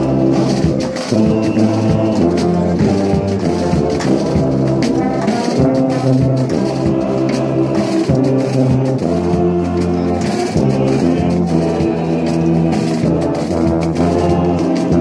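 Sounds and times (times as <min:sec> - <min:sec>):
brass band playing slow tune: 0:00.0 - 0:15.0
percussion hits: 0:00.0 - 0:15.0.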